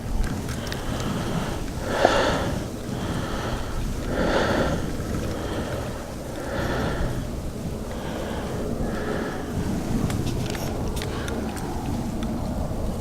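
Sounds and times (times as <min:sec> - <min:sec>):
person breathing close: 0:00.0 - 0:11.9
steady low rumble: 0:00.0 - 0:13.0.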